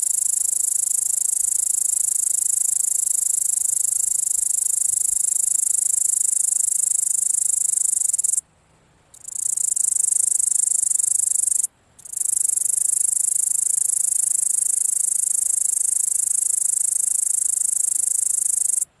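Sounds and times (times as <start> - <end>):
grasshopper stridulating buzz: 0.0 - 8.4, 9.2 - 18.9.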